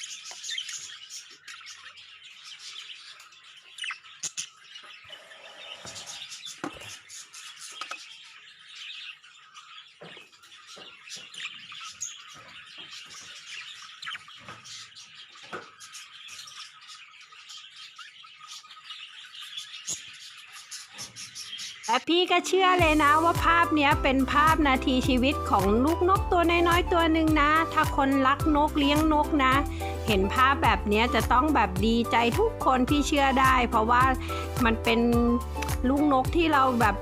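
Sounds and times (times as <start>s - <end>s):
budgerigars chirping: 0.0s - 22.0s, 22.9s - 37.0s.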